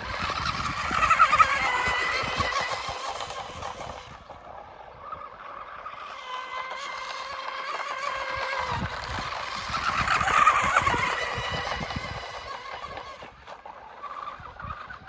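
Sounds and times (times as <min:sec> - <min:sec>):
toy boat motor whine: 0:00.0 - 0:15.0.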